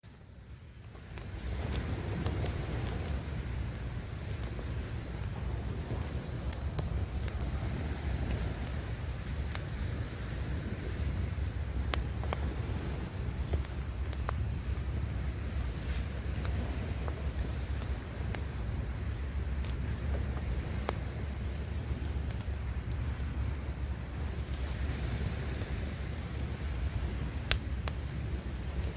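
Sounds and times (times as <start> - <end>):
low rumble of sea waves: 0.0 - 28.9
wood fire crackling and popping: 0.0 - 28.9.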